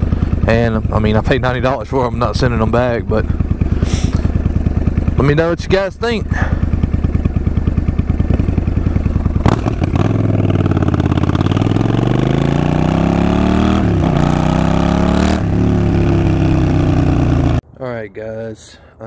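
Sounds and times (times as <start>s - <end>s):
motorcycle engine idling and accelerating: 0.0s - 17.6s.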